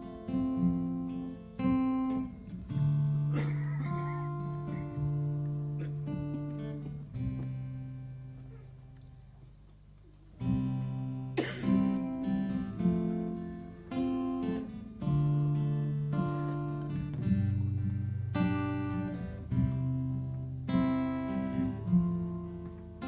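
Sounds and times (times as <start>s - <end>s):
acoustic guitar strumming chords: 0.0s - 9.3s, 10.4s - 23.0s.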